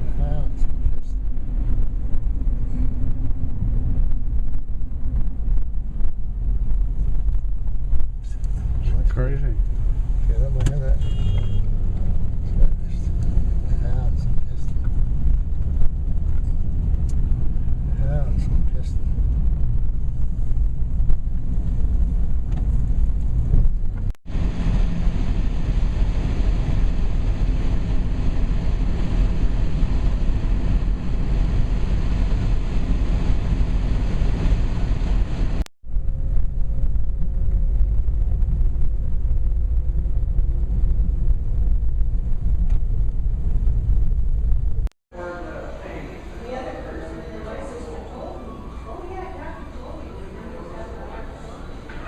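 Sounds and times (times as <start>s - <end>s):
wind buffeting microphone: 0.0s - 10.5s, 11.6s - 44.9s
vehicle road noise: 0.0s - 52.0s.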